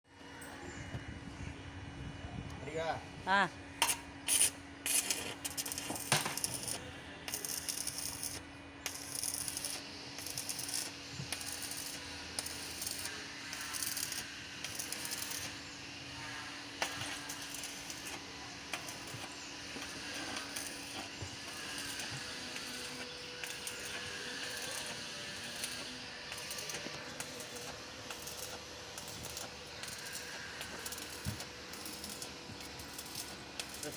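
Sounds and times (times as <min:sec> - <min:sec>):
steady low hum: 0:00.1 - 0:33.9
welding arc crackling: 0:03.8 - 0:33.9.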